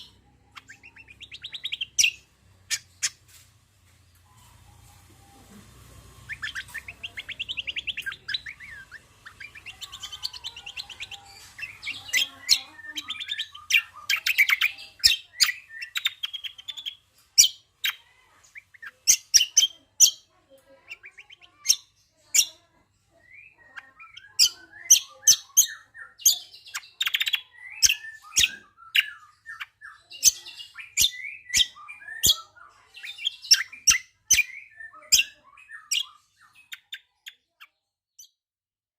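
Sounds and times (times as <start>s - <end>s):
songbird trilling and chirping: 0.0s - 3.4s, 4.1s - 38.4s.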